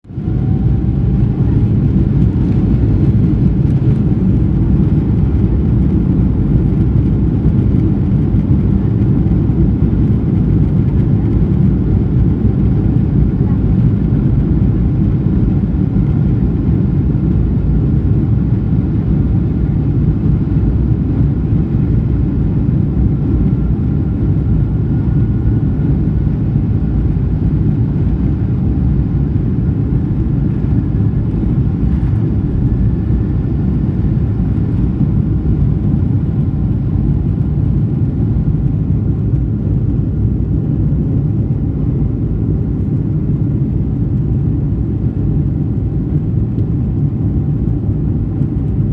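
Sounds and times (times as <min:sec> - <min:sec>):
jet engines and airflow rumble: 0:00.0 - 0:48.9.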